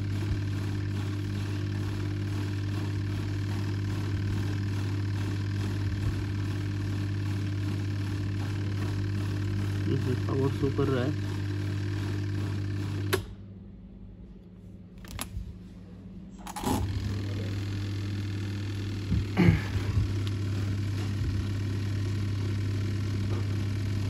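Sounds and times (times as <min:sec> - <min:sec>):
washing machine pump hum: 0:00.0 - 0:13.5, 0:14.1 - 0:24.0.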